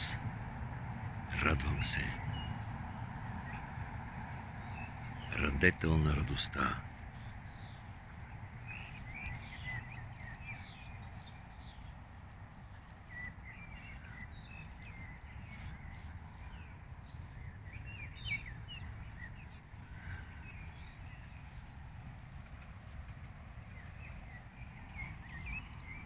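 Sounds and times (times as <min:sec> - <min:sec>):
low background rumble: 0:00.0 - 0:25.6
songbirds chirping and singing: 0:00.0 - 0:26.0.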